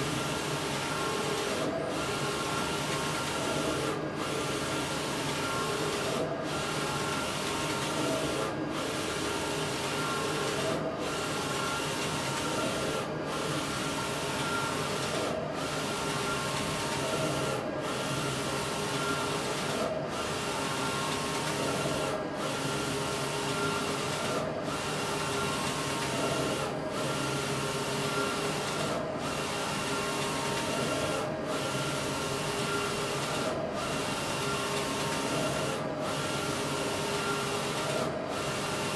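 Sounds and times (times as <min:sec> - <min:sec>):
printer hum and hiss: 0:00.0 - 0:38.9.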